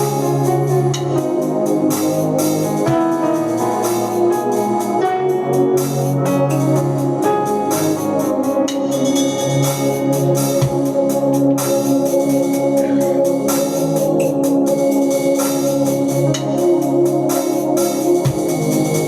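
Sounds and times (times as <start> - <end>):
electronic organ chords: 0.0 - 19.0.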